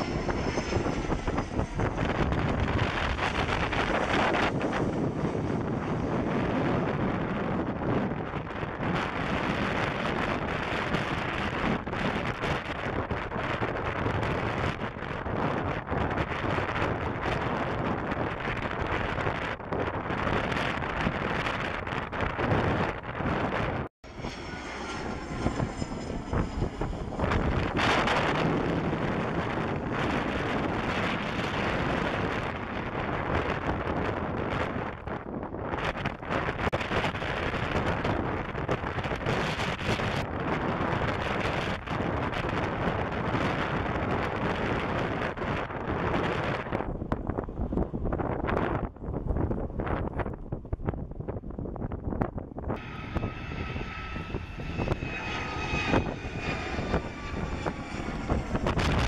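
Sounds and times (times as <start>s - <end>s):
high jet engine whine: 0.0s - 59.0s
jet engines landing: 0.0s - 59.0s
wind buffeting microphone: 0.0s - 59.0s.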